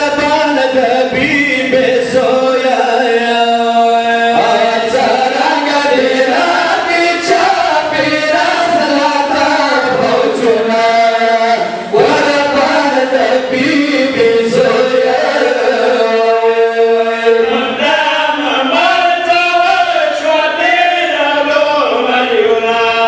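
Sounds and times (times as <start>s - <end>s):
men chanting a lament: 0.0s - 23.0s.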